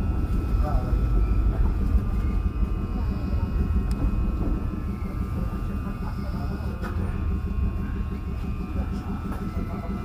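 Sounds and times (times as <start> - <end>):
electric train equipment hum: 0.0 - 10.0
faint steady whine: 0.0 - 10.0.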